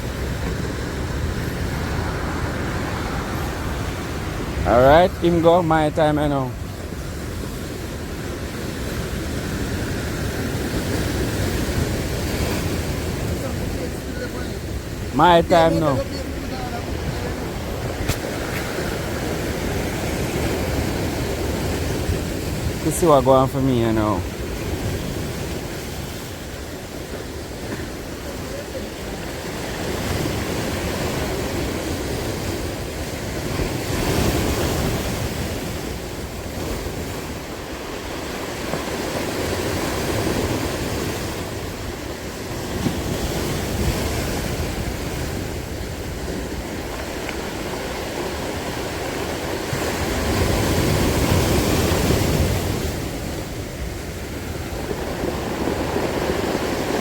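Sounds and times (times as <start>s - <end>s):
surf washing onto shore: 0.0s - 57.0s
wind buffeting microphone: 0.0s - 57.0s.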